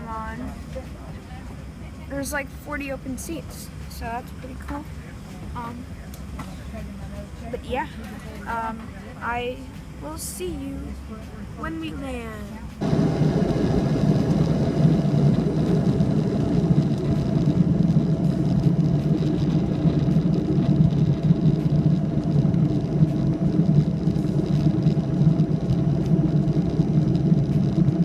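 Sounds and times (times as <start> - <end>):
jet engine cabin drone: 0.0 - 28.0.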